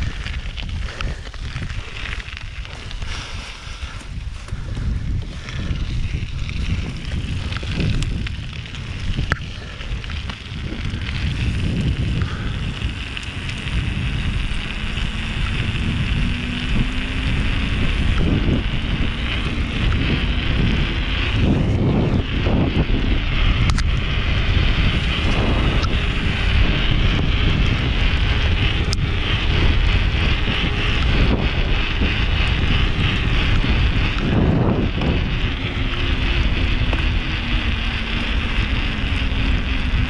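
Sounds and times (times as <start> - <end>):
tyre and trail noise: 0.0 - 40.0
wind buffeting microphone: 0.0 - 40.0.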